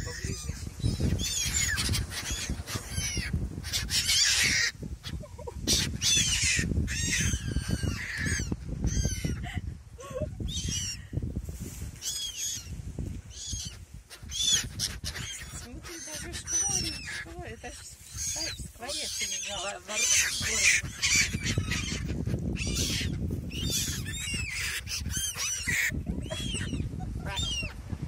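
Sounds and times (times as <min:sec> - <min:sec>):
gulls calling: 0:00.0 - 0:11.0, 0:13.3 - 0:27.9.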